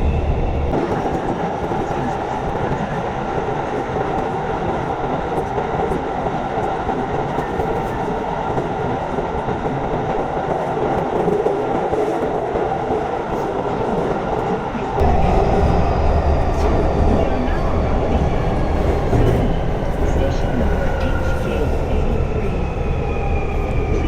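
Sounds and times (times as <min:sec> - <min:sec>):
train wheels on rail: 0:03.4 - 0:24.0.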